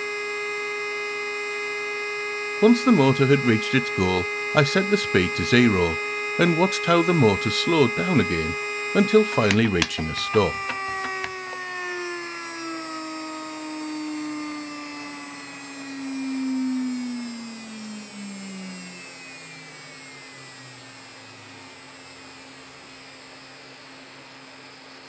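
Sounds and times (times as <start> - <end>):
small electric motor whine: 0.0 - 25.0.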